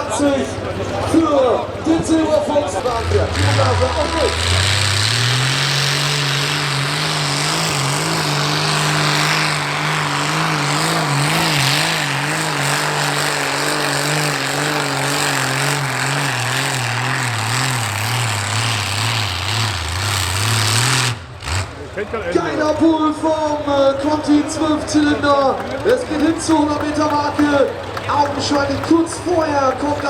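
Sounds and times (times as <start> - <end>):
tractor engine running at high revs: 0.0 - 30.0.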